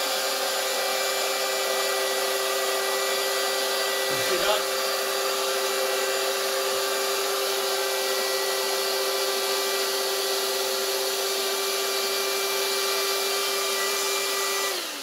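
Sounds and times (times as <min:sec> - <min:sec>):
electric air pump whine: 0:00.0 - 0:15.0.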